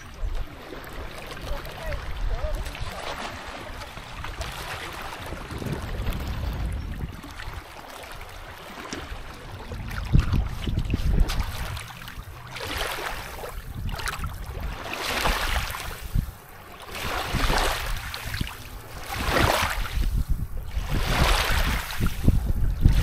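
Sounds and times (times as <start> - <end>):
waves lapping on pebbles: 0.0 - 23.0
wind rumble on microphone: 0.0 - 23.0.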